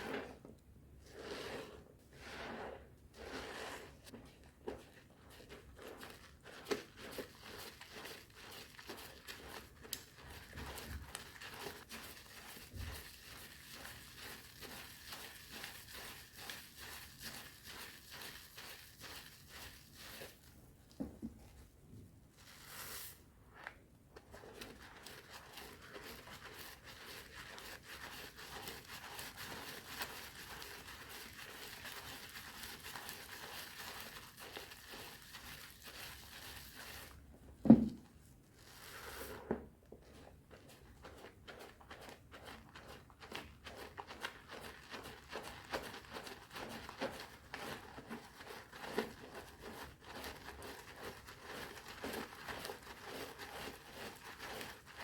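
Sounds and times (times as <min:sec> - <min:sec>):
hands squishing soap lather: 0:01.1 - 0:21.0, 0:22.4 - 0:37.3, 0:37.9 - 0:55.0.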